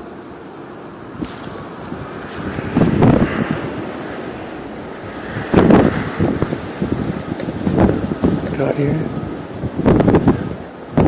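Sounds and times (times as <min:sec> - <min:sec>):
wind gusting on microphone: 0:00.6 - 0:11.0.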